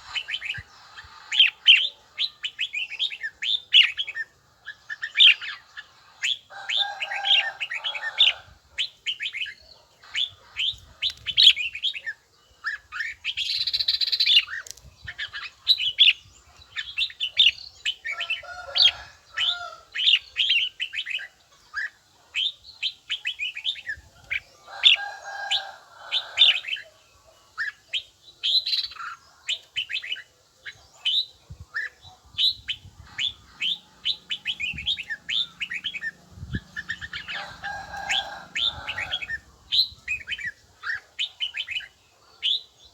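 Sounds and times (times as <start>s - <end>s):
lower warbled bird phrases: 0.0s - 42.9s.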